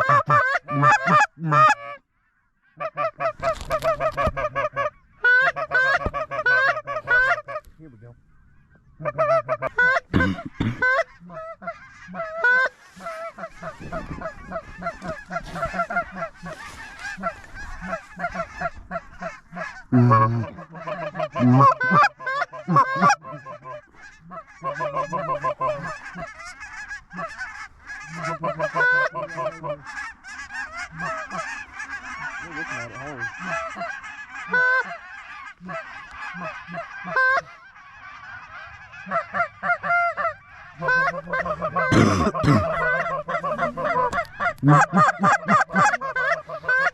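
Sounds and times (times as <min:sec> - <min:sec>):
close goose honks: 0:00.0 - 0:46.9
flock of geese honking: 0:00.0 - 0:46.9.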